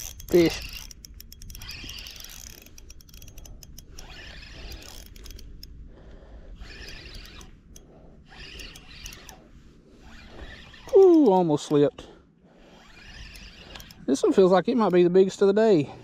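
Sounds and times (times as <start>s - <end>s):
fishing reel clicks: 0.0s - 5.8s, 6.5s - 12.1s, 12.7s - 15.3s
fishing reel whirring: 0.0s - 15.2s.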